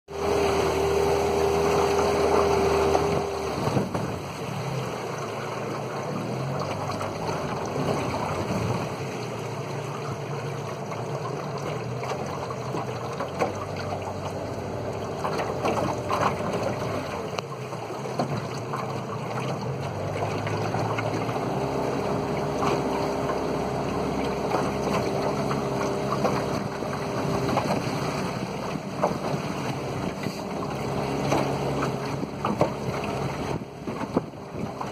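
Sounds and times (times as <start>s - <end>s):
outboard motor running: 0.1s - 34.9s
water rushing along hull: 0.1s - 34.9s.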